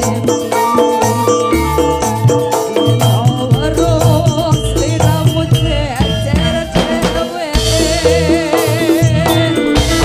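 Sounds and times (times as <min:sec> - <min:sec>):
bass guitar: 0:00.0 - 0:10.0
hand drums: 0:00.0 - 0:10.0
metallophones: 0:00.0 - 0:10.0
woman singing: 0:00.0 - 0:10.0.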